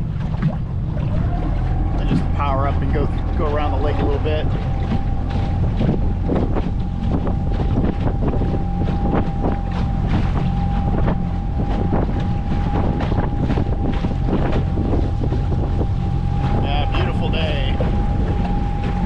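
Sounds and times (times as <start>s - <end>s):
outboard motor running: 0.0s - 19.0s
wind buffeting microphone: 0.0s - 19.0s.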